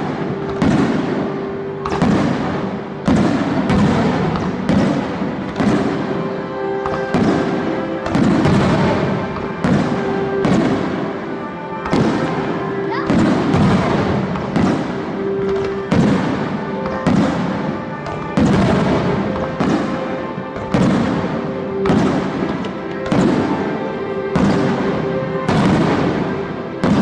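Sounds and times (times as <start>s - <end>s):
fireworks bursting: 0.0s - 27.0s
music: 0.0s - 27.0s.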